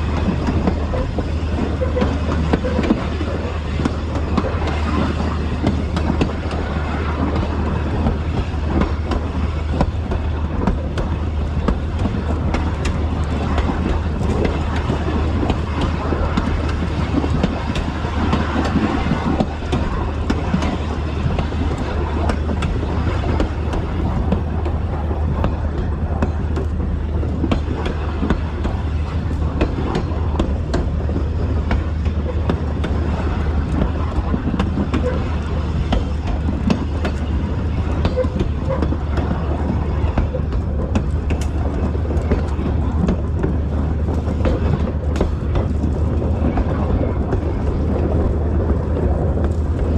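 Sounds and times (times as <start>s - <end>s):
diesel engine drone: 0.0s - 49.9s
wheels clattering on rail: 0.0s - 49.9s.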